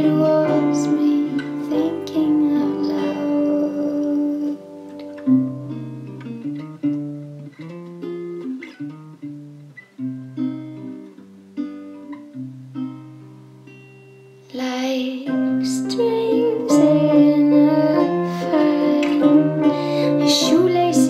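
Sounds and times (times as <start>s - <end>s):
plucked acoustic guitar: 0.0s - 21.0s.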